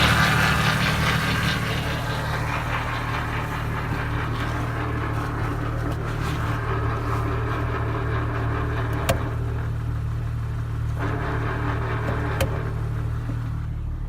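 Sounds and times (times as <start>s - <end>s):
engine hum: 0.0s - 14.0s
transmission grinding whir: 0.0s - 14.0s.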